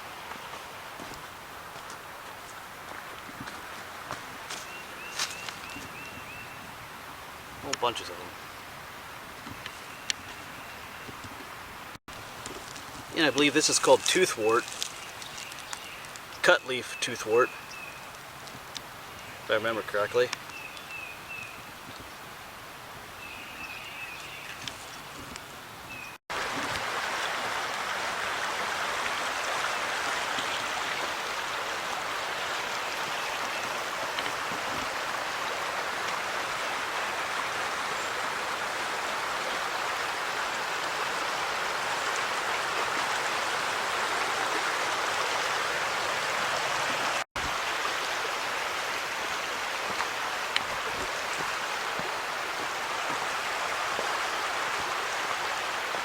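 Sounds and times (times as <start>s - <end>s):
creek flowing over rocks: 0.0s - 20.6s, 23.6s - 56.0s.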